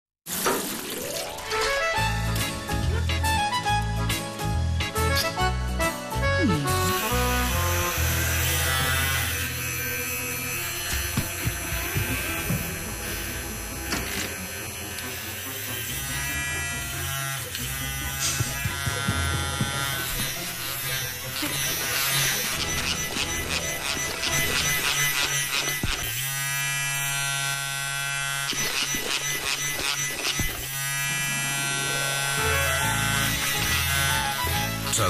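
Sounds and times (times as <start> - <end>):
electric vibrator buzzing: 4.8 - 35.0.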